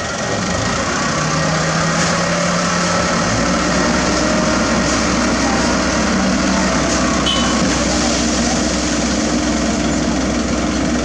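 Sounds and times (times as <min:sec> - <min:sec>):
construction machinery diesel engines: 0:00.0 - 0:11.0.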